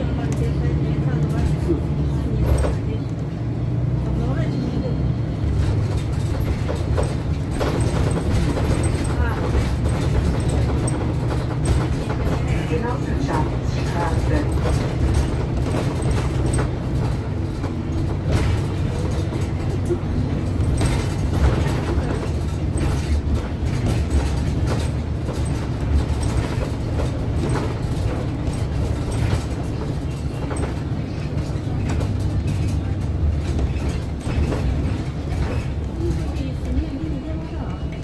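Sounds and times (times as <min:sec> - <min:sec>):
bus running rumble: 0:00.0 - 0:38.0
knocks and rattles: 0:05.4 - 0:36.8.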